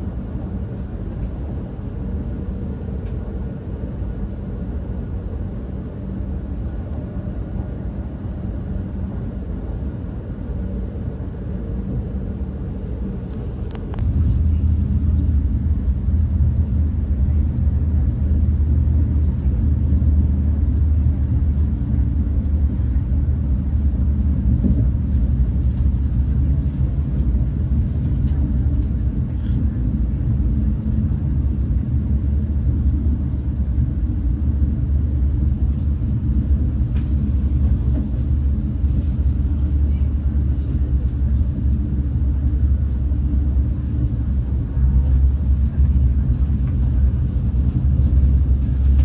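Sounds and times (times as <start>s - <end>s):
train rumble inside coach: 0.0s - 49.0s.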